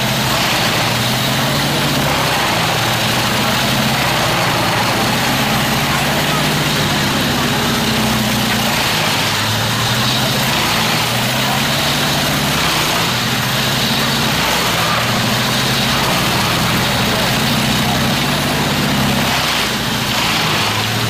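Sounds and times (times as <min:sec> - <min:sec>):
heavy engine drone: 0:00.0 - 0:21.0.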